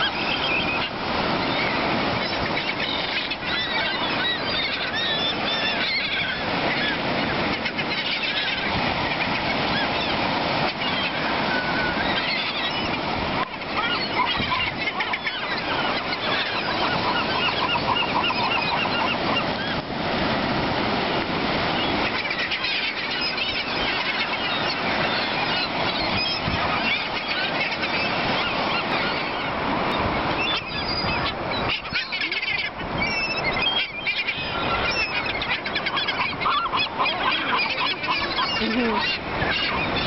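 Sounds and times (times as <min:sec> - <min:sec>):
flock of gulls calling: 0:00.0 - 0:40.0.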